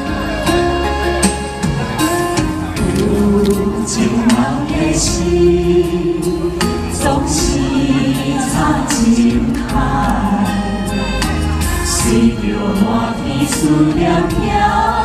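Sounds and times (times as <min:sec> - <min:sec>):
backing music: 0:00.0 - 0:15.0
person singing pop ballad: 0:00.0 - 0:15.0.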